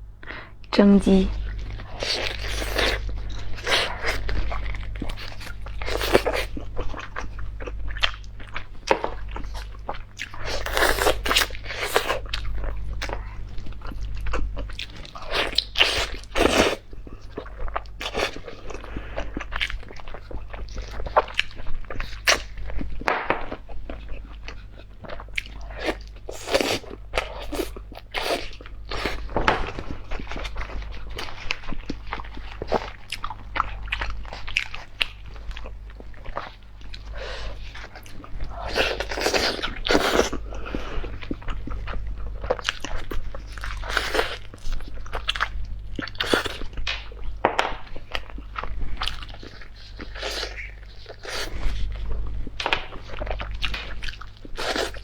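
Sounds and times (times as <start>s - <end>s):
low steady hum: 0.0s - 55.0s
crunchy chewing: 1.4s - 55.0s.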